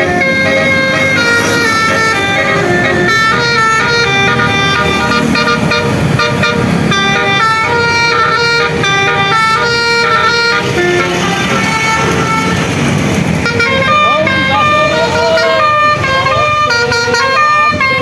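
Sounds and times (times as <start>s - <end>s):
musical air horn playing a tune: 0.0s - 12.8s, 13.4s - 18.0s
low engine rumble: 0.0s - 18.0s.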